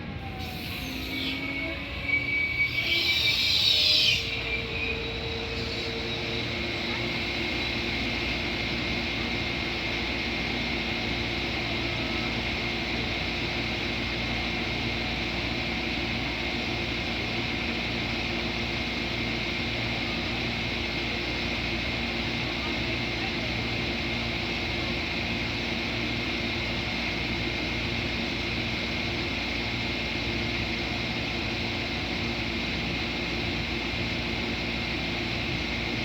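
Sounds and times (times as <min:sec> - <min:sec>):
train rail and engine noise: 0:00.0 - 0:36.0.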